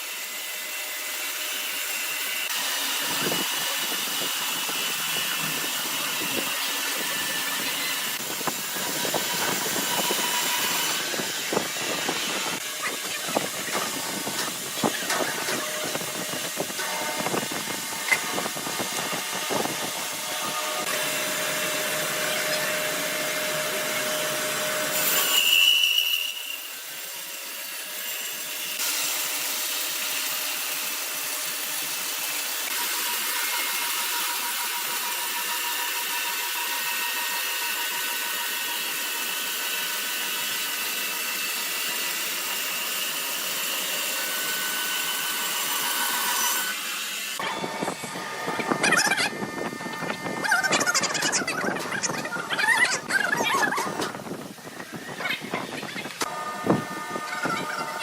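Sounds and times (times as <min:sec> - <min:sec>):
sawmill saw cutting timber: 0:00.0 - 0:58.0.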